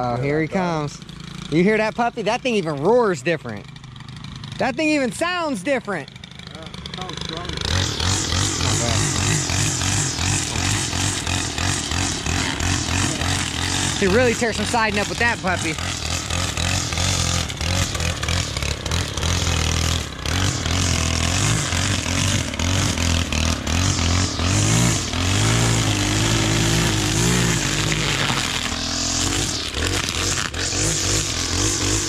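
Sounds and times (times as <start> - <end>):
string trimmer engine revving: 0.0 - 32.0
trimmer line cutting weeds: 0.0 - 32.0.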